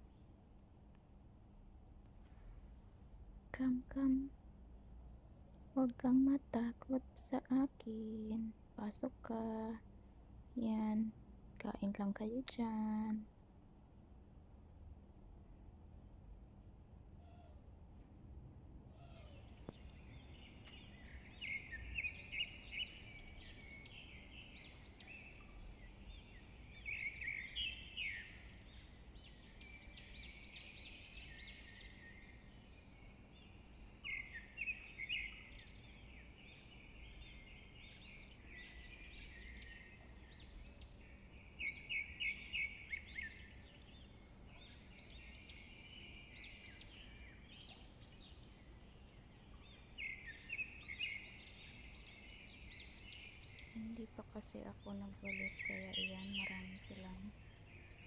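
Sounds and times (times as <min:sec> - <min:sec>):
faint low hum: 0:00.0 - 0:58.0
small birds chirping: 0:03.6 - 0:04.3, 0:05.4 - 0:09.8, 0:10.6 - 0:13.3, 0:18.9 - 0:58.0.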